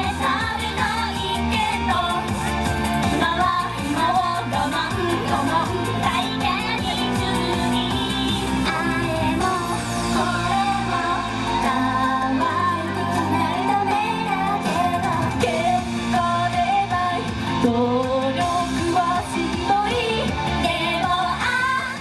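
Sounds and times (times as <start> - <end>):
band backing track: 0.0 - 22.0
female group singing pop song: 0.0 - 22.0.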